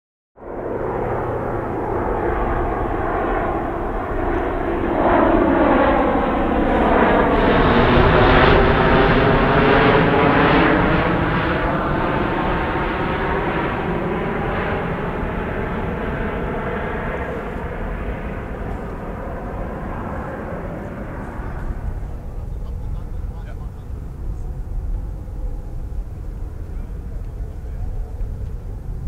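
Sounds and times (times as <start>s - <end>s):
turboprop aircraft flying overhead: 0.4s - 29.0s.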